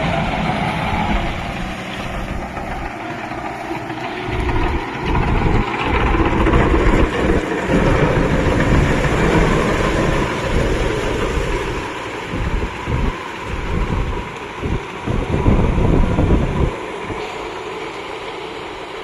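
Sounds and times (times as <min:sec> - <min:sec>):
gusty rumbling: 0:00.0 - 0:17.3
tractor diesel engine running: 0:00.0 - 0:19.0.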